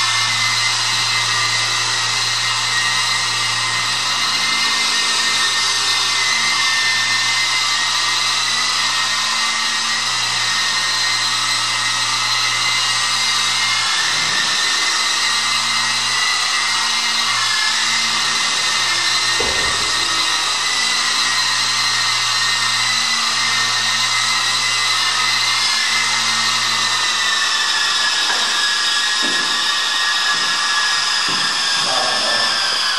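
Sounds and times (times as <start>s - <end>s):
toy helicopter rotors whirring: 0.0s - 32.9s.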